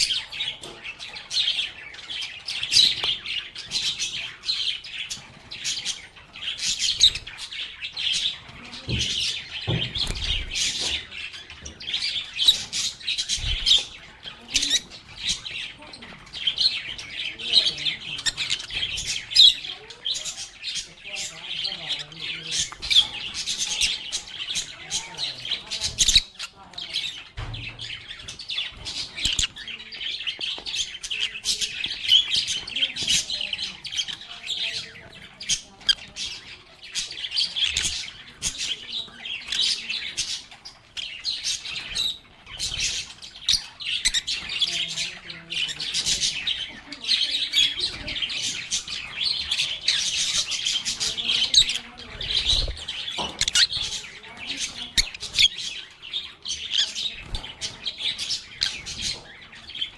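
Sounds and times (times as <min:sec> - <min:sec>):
lovebirds chirping and chattering: 0:00.0 - 0:59.9.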